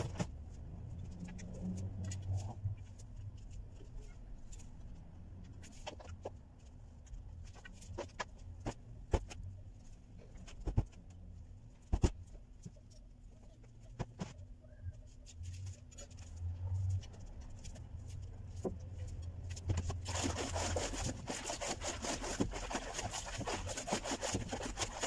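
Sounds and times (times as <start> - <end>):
faint low hum: 0.0 - 21.6.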